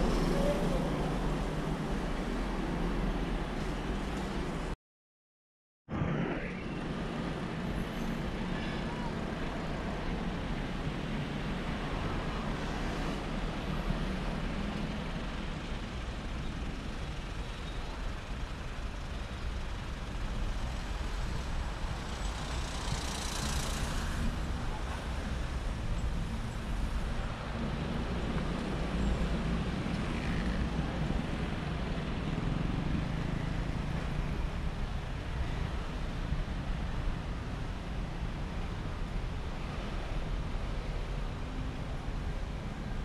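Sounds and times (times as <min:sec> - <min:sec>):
traffic passing: 0:00.0 - 0:04.8, 0:06.2 - 0:43.0.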